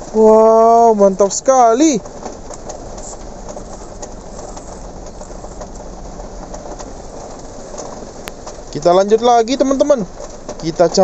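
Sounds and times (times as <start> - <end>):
small rapid clicks: 0.8 - 11.0.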